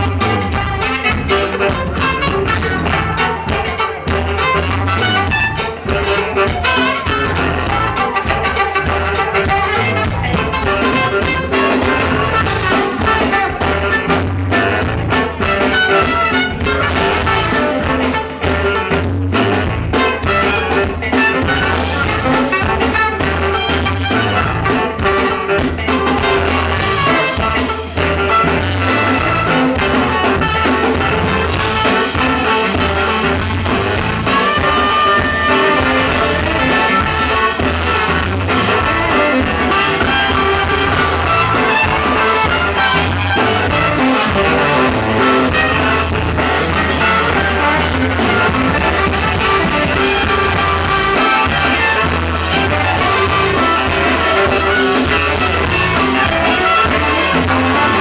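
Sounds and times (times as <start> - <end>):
heavy bass line: 0.0 - 58.0
live funk band playing: 0.0 - 58.0.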